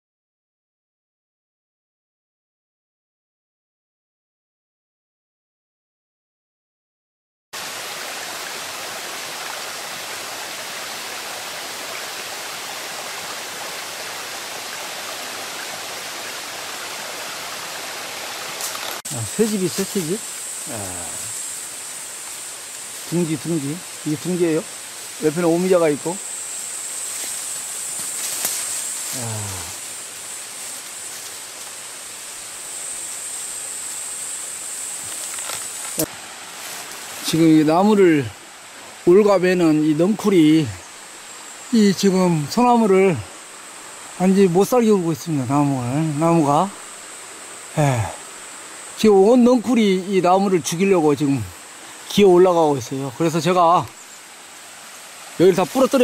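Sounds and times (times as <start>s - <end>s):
forest ambience hiss: 7.6s - 56.0s
stream running over rocks: 7.6s - 56.0s.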